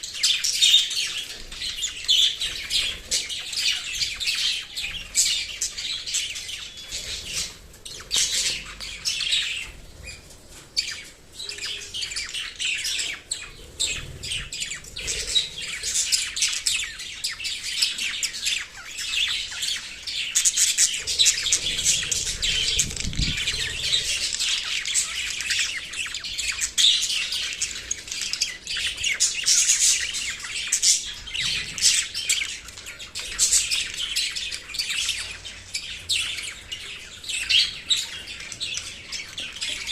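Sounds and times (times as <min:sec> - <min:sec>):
parrots chirping: 0:00.0 - 0:39.9.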